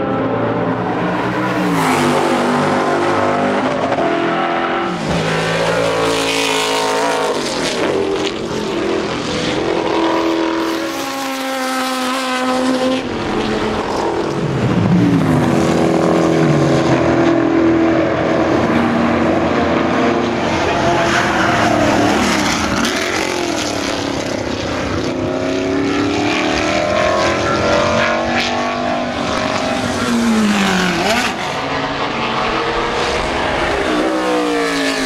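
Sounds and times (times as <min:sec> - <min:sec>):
race car engines at speed: 0:00.0 - 0:35.0.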